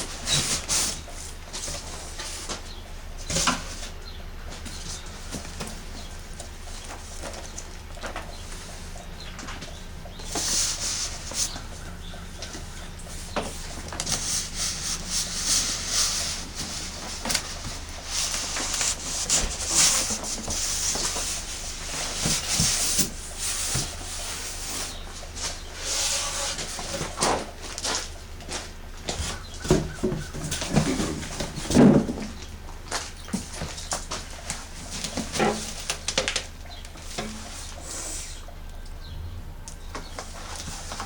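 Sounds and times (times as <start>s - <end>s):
cardboard and foam rustling: 0.0s - 38.3s, 40.1s - 41.0s.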